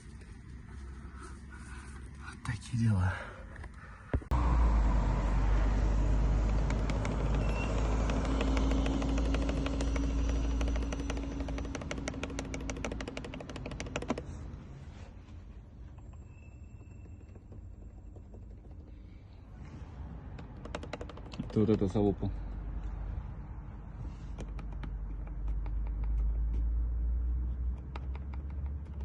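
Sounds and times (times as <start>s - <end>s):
car engine ticking over rumble: 3.5s - 29.0s.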